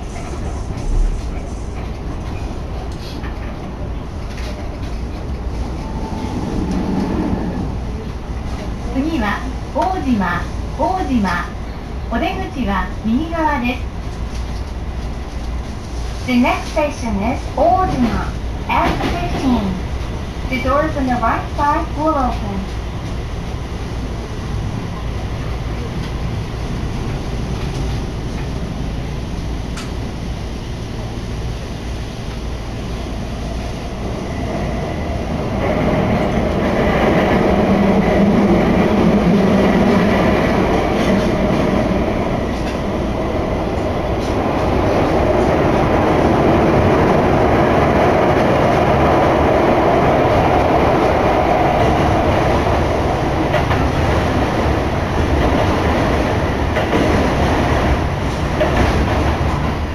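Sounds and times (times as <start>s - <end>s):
subway train running noise: 0.0s - 59.9s.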